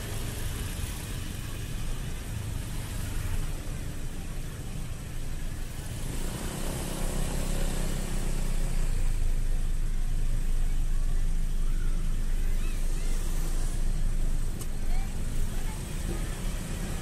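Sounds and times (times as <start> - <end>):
road and wind noise: 0.0 - 17.0
vehicle engine rumble: 0.0 - 17.0.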